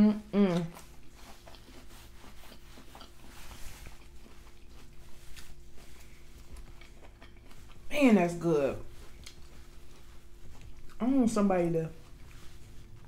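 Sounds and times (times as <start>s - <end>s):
soft chewing: 0.1s - 13.0s.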